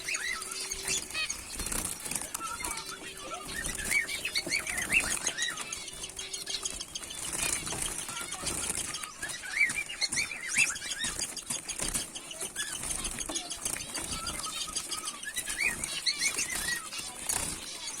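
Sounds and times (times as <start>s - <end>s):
finches chirping: 0.0s - 18.0s
wing flutters: 0.0s - 18.0s.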